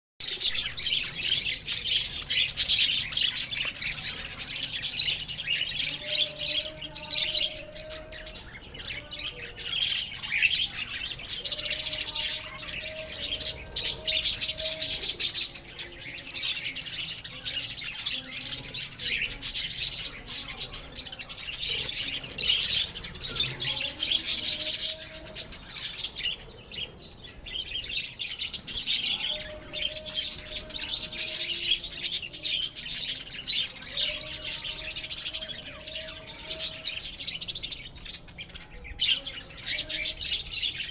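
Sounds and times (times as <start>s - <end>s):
budgerigars chattering and chirping: 0.2s - 40.9s.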